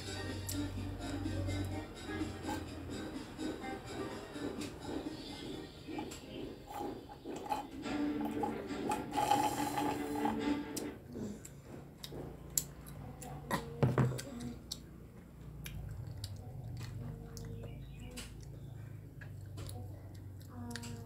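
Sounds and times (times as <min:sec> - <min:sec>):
child chewing food: 0:00.1 - 0:03.1, 0:04.0 - 0:21.0.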